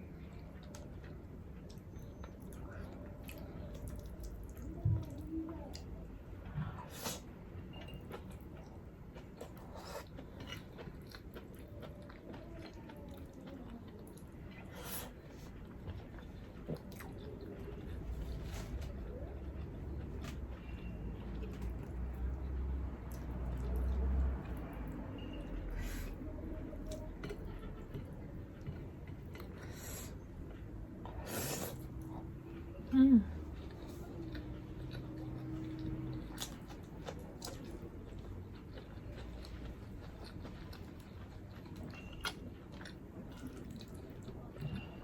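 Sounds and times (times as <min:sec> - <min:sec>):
person chewing food: 0:00.2 - 0:32.8, 0:33.4 - 0:45.0.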